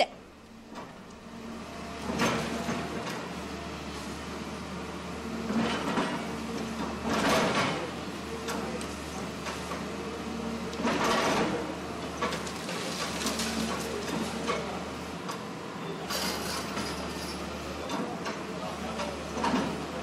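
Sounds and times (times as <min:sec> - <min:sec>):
excavator engine hum: 0:00.0 - 0:20.0.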